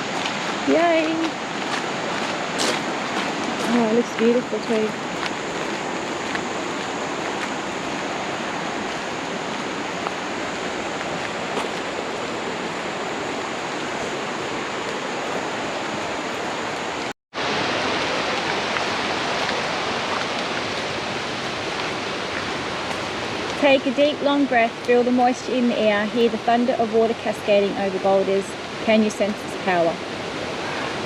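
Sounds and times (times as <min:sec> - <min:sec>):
waterfall rushing over boulders: 0:00.0 - 0:31.0.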